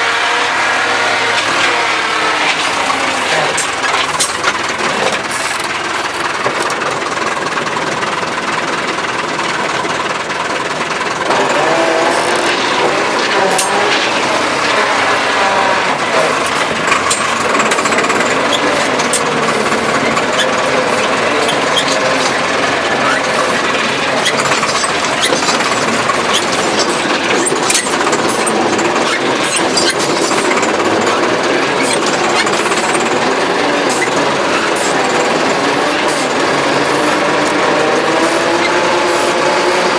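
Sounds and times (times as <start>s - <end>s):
tractor engine running: 0.0s - 39.9s
mechanical clatter: 1.2s - 39.9s.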